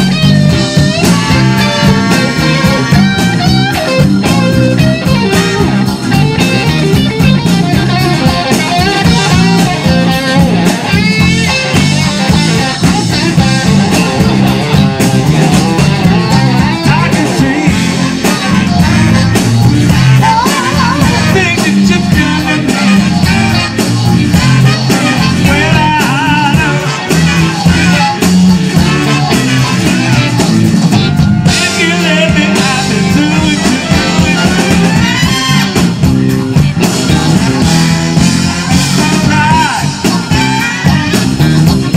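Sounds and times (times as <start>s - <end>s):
bass: 0.0s - 41.9s
drum kit: 0.0s - 41.9s
electric guitar: 0.0s - 41.9s
person singing: 0.2s - 41.9s.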